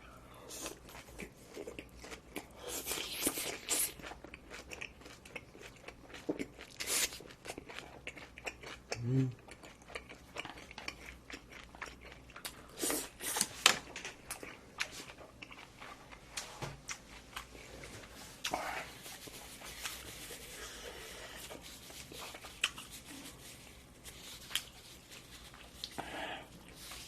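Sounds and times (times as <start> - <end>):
chewing and crunching food: 0.3 - 27.0.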